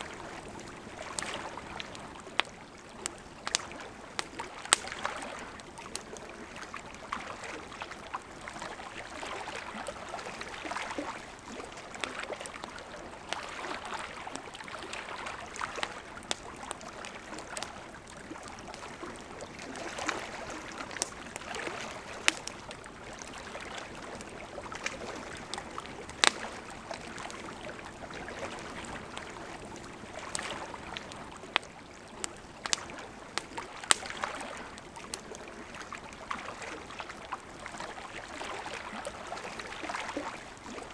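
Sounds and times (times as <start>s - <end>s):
burning wood crackling and popping: 0.0s - 8.2s, 9.1s - 35.9s.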